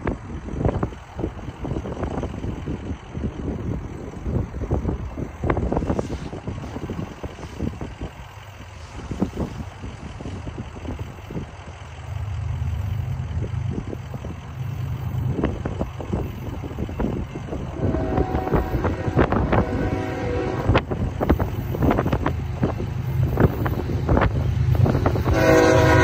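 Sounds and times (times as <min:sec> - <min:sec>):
diesel locomotive rumble: 0:00.0 - 0:26.0
wind buffeting microphone: 0:00.0 - 0:26.0.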